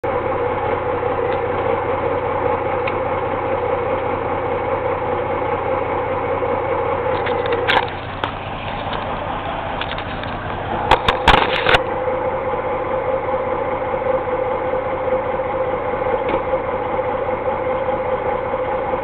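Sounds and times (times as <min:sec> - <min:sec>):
truck diesel engine idling: 0:00.0 - 0:19.0.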